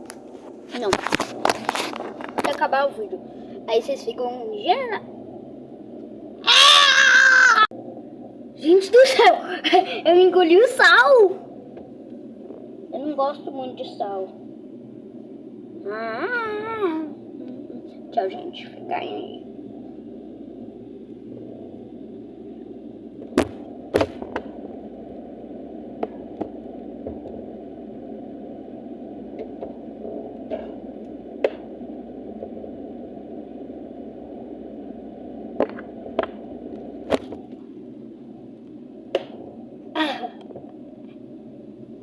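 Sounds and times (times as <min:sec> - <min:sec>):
freezer humming: 0:00.0 - 0:42.0.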